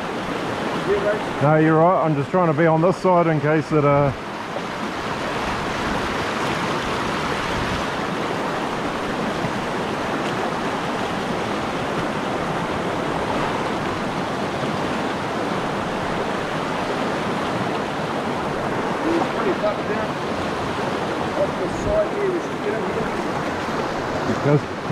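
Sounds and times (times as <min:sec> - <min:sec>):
stream rushing over stones: 0:00.0 - 0:24.9.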